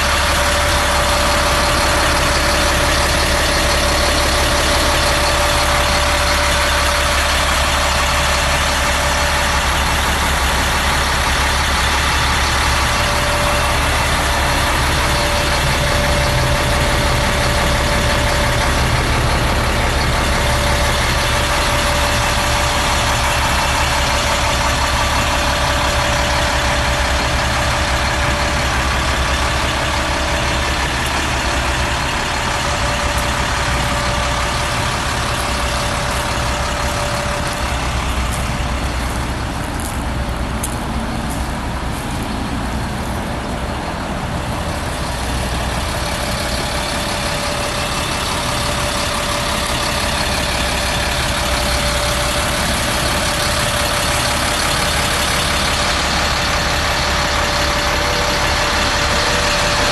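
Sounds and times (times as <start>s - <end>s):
constant whine: 0.0s - 59.9s
truck diesel engine idling: 0.0s - 59.9s.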